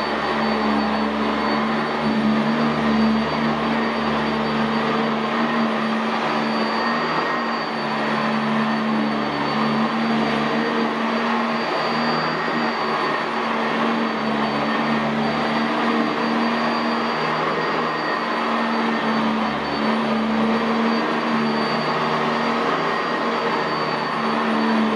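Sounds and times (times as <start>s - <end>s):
upright vacuum running: 0.0s - 24.9s.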